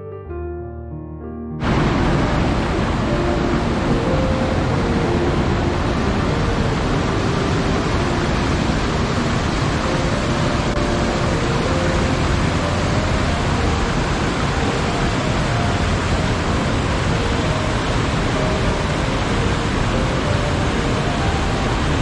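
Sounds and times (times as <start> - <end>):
waterfall roaring: 1.6 - 22.0.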